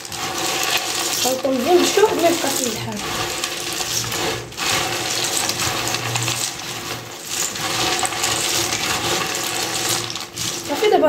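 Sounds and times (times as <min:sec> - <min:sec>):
hard pieces rattling in clay dish: 0:00.0 - 0:11.0.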